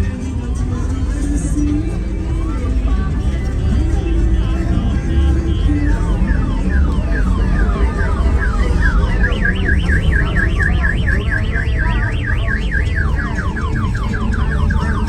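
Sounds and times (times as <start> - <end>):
heavy low rumble: 0.0 - 15.0
car alarm sweeps and warble: 0.4 - 15.0.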